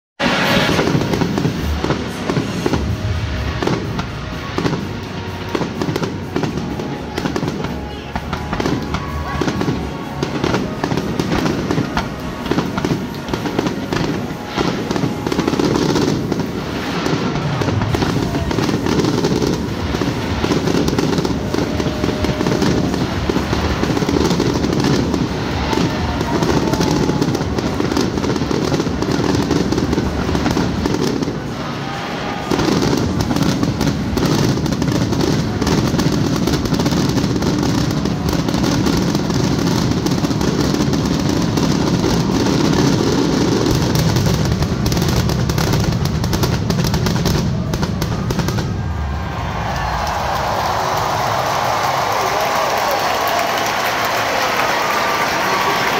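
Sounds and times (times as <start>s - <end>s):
fireworks bursting and crackling: 0.2s - 55.9s.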